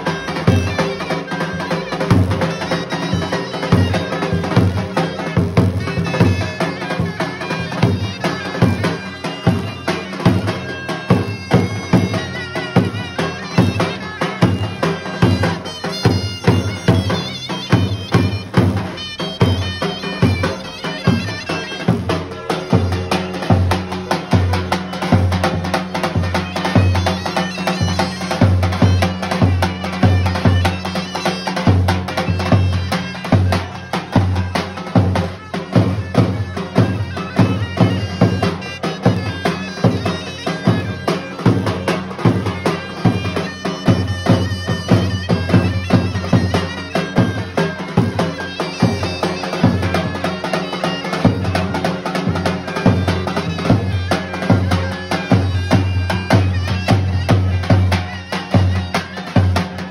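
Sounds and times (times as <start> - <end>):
zurna melody: 0.0 - 59.9.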